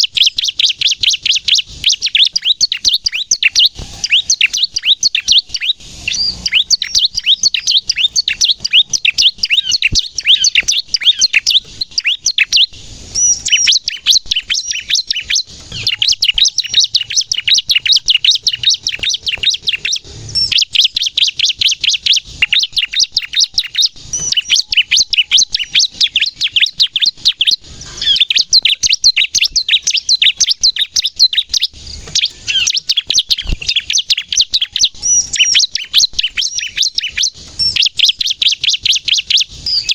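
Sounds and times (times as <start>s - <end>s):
bird singing high sharp chirps: 0.0s - 39.9s.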